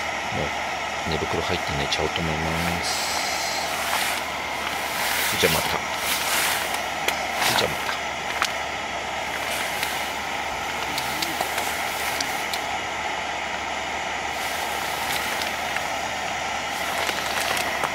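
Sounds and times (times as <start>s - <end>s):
gas stove flame hissing: 0.0s - 17.9s.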